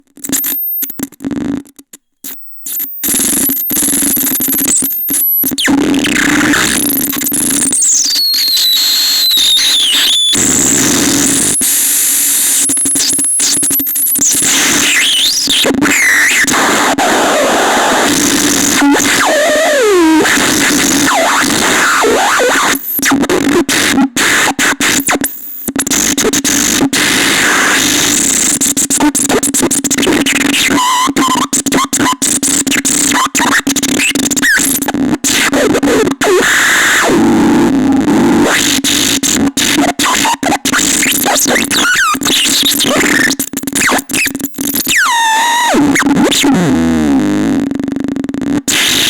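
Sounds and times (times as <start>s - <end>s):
harsh glitchy electronic noise: 2.3s - 47.6s, 48.4s - 49.0s.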